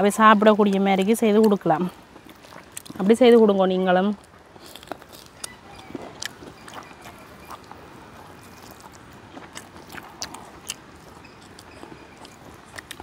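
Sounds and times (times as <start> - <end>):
faint chewing: 0.0 - 13.0
small eating clicks: 0.0 - 13.0.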